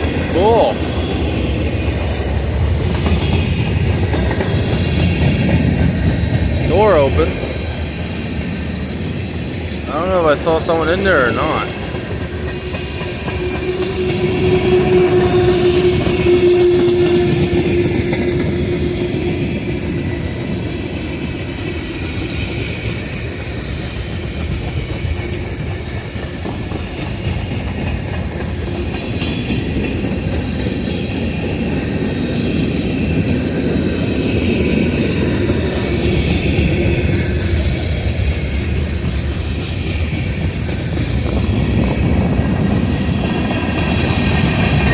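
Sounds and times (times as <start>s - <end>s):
freight train wheels clacking: 0.0s - 44.9s.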